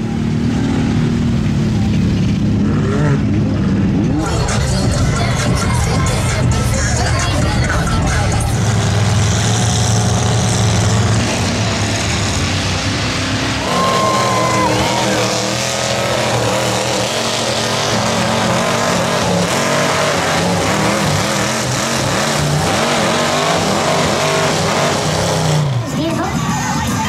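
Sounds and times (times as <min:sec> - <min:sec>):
truck engines revving: 0:00.0 - 0:27.0.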